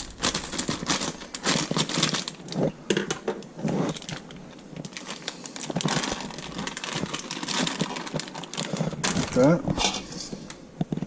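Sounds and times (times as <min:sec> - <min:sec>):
plastic bag crinkling: 0:00.0 - 0:02.8, 0:03.5 - 0:10.6.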